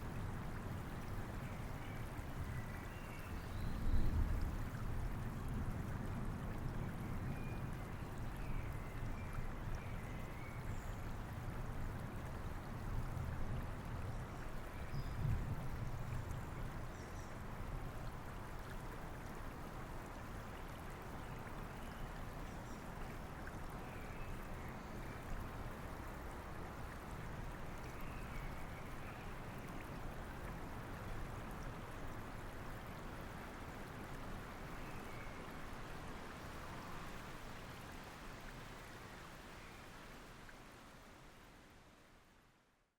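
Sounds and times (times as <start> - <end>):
steady rain: 0.0 - 42.8
river flowing: 0.0 - 42.9.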